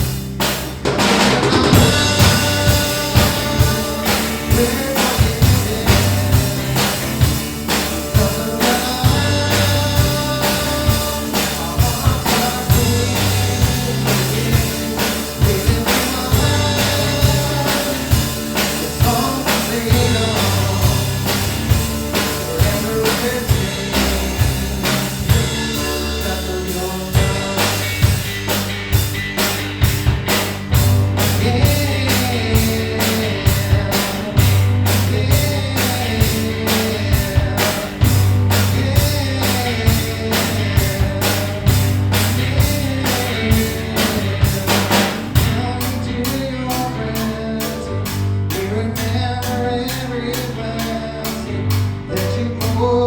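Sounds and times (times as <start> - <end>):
drum beat: 0.0 - 45.6
bass: 0.0 - 53.0
person singing: 1.0 - 28.3, 31.2 - 53.0.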